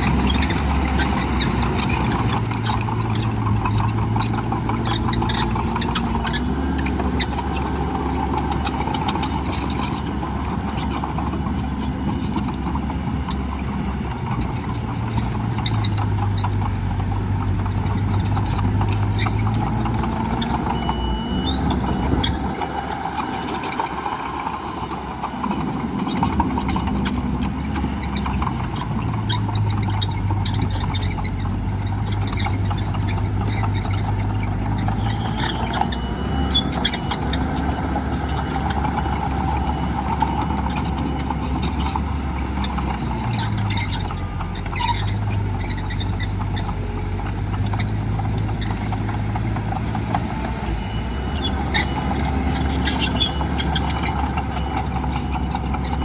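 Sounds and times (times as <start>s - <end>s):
heavy diesel machinery engines: 0.0s - 56.0s.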